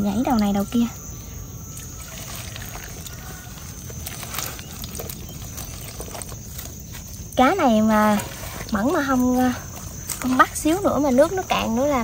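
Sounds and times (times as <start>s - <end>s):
hands rummaging through wet fish: 0.1s - 12.0s
fish flapping in metal basin: 1.8s - 12.0s.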